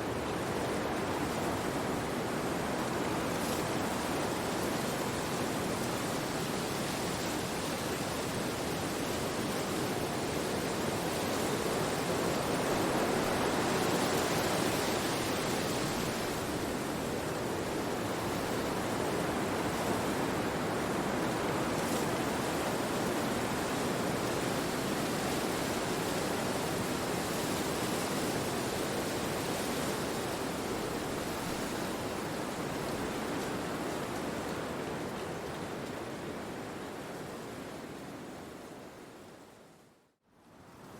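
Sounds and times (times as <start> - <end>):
wind rushing through trees: 0.0 - 40.9.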